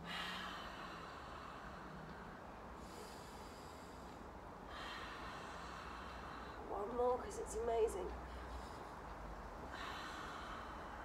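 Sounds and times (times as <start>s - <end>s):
woman breathing slowly: 0.0s - 7.0s, 8.1s - 11.0s.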